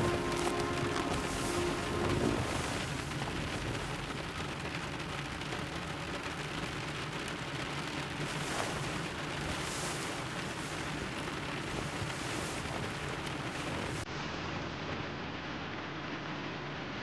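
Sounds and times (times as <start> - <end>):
rain heard inside a car: 0.0 - 17.0.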